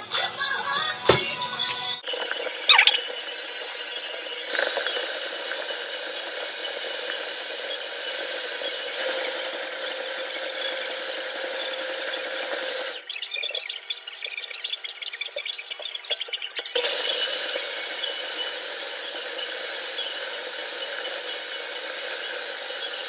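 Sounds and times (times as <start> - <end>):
stand mixer motor whining: 2.0 - 23.0.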